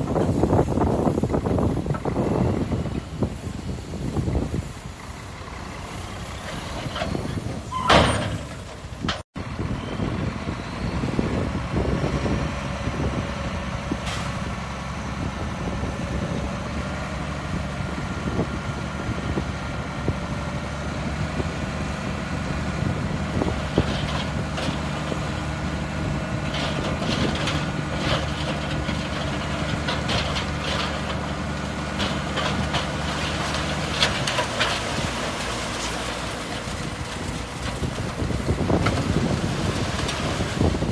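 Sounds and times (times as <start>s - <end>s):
diesel machine engine running: 0.0s - 40.9s.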